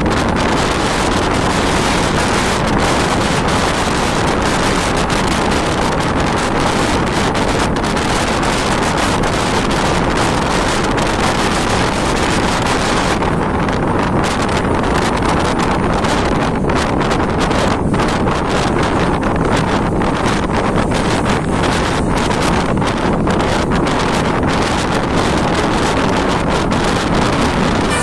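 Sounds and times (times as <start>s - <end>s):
bus road noise: 0.0s - 28.0s
wind rush on microphone: 0.0s - 28.0s.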